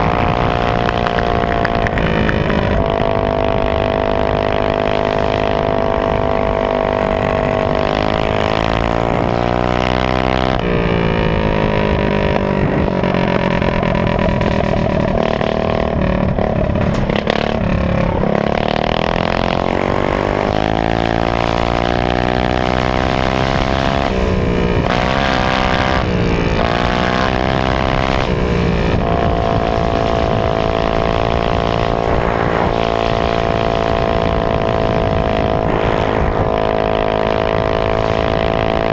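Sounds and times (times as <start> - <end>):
minibike engine running hard: 0.0 - 38.9.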